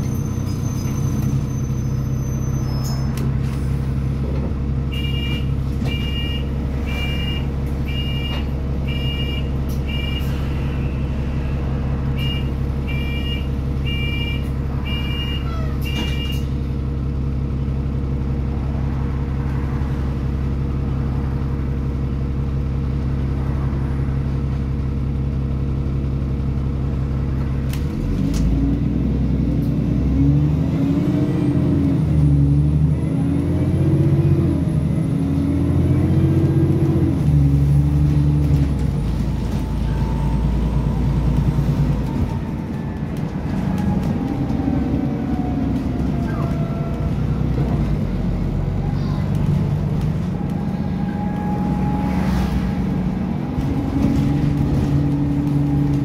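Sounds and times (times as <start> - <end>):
bus engine idling: 0.0 - 29.9, 31.4 - 56.0.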